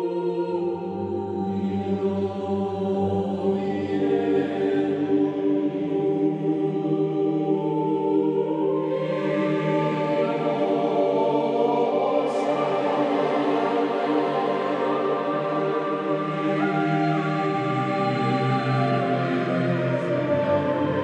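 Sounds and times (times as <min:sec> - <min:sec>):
choir singing slow chant: 0:00.0 - 0:21.0.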